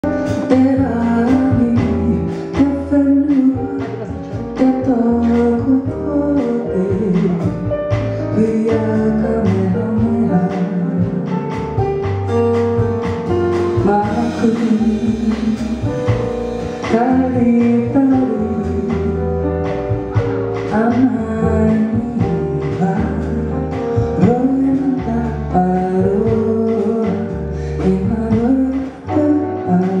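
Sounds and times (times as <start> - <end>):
drums: 0.0 - 30.0
woman singing: 0.1 - 11.6, 13.5 - 30.0.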